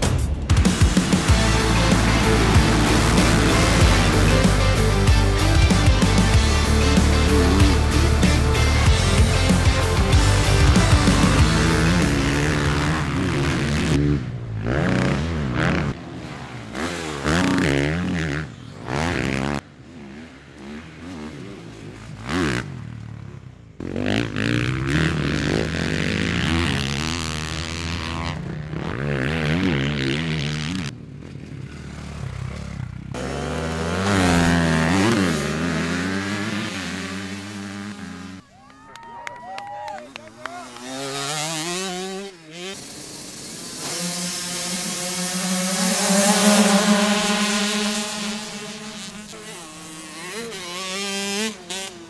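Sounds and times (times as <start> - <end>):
dirt bike engines revving: 0.0 - 38.7, 39.5 - 52.0.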